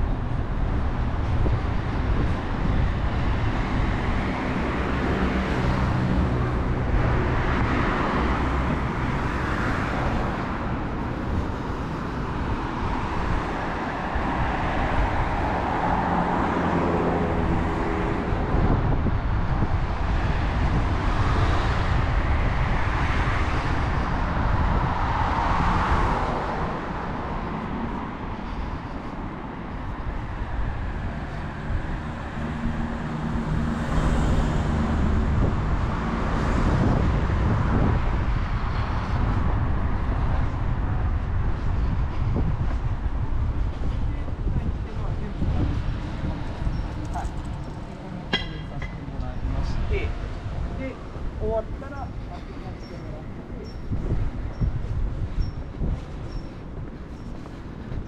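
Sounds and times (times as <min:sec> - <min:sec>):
cars passing: 0:00.0 - 0:58.0
steady low traffic rumble: 0:00.0 - 0:58.0.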